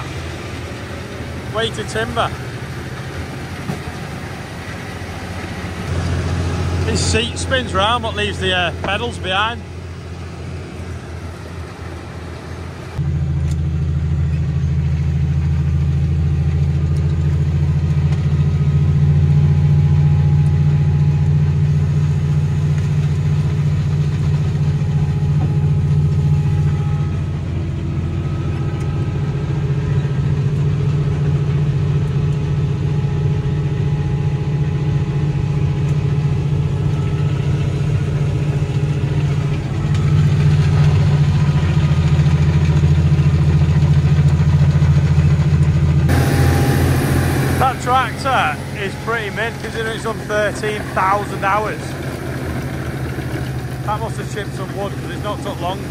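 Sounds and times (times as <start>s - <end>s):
tractor engine drone: 0.0s - 55.9s.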